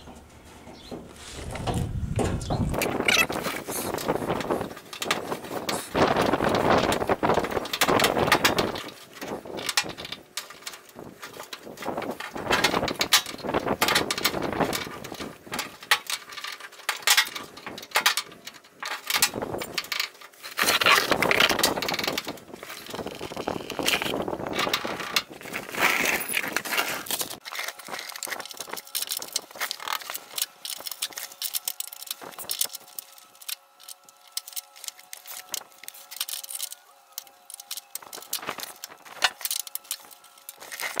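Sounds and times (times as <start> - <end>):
rustling handling noise: 0.0 - 41.0.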